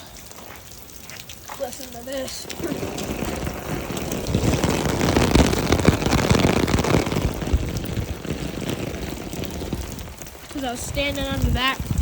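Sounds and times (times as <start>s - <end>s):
heavy rain: 0.0s - 12.0s
thunder rumbling: 2.2s - 12.0s.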